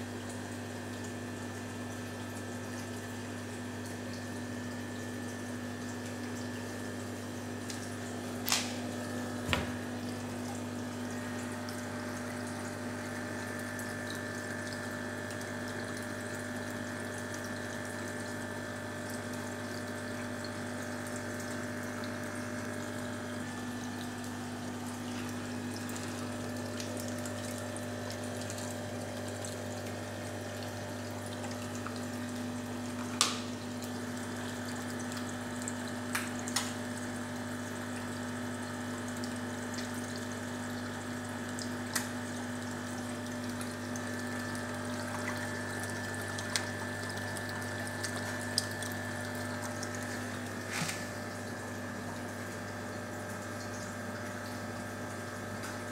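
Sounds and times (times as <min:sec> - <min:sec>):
filter pump humming: 0:00.0 - 0:55.9
water trickling and splashing: 0:00.1 - 0:55.9.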